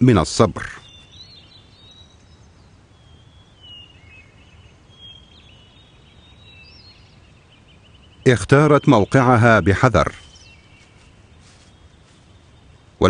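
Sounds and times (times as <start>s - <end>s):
birds chirping and whistling: 0.0s - 13.0s
low steady background hiss: 0.0s - 13.0s.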